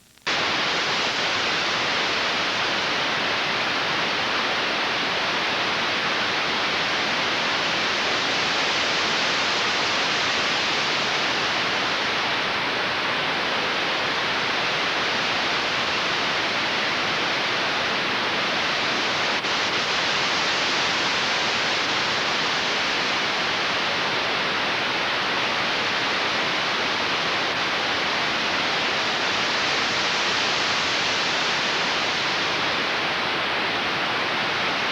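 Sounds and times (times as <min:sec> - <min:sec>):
static hiss: 0:00.0 - 0:34.9.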